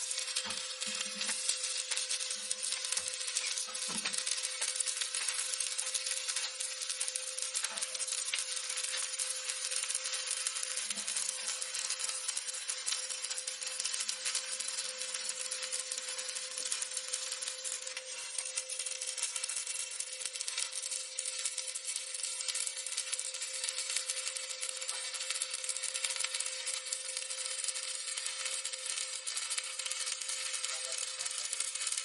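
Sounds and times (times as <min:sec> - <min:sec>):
welding arc crackling: 0:00.0 - 0:32.0.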